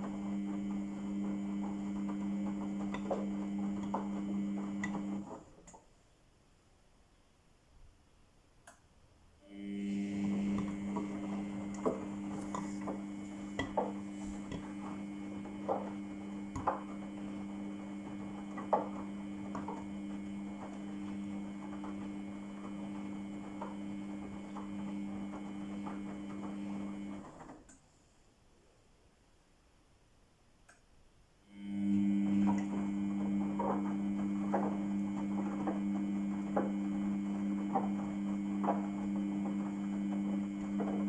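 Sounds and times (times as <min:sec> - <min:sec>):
washing machine motor hum: 0:00.0 - 0:05.9, 0:09.4 - 0:27.7, 0:31.4 - 0:41.0.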